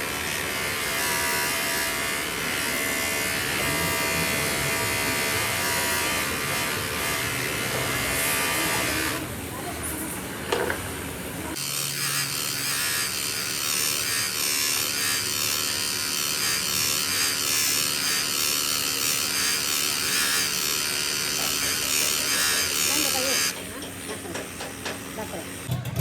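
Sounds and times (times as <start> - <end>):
small power tool whirring: 0.0 - 9.4, 10.5 - 25.7.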